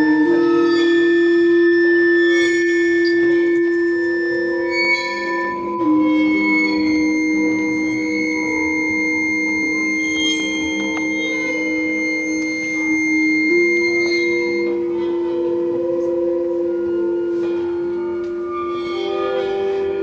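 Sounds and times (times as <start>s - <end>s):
double bass: 0.0s - 20.0s
saxophone: 0.0s - 20.0s.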